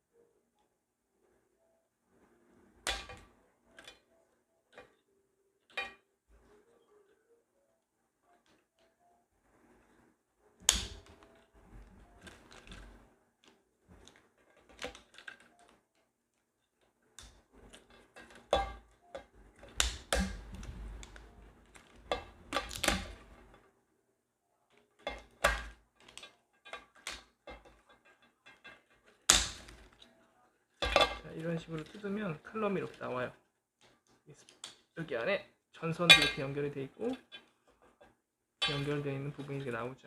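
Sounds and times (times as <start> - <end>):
plastic parts clicking and knocking: 2.6 - 5.0, 5.6 - 6.7, 9.8 - 23.8, 24.7 - 40.0.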